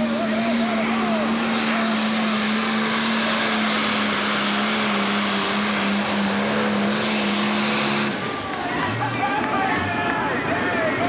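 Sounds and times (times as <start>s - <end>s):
diesel engine at full throttle: 0.0s - 11.0s.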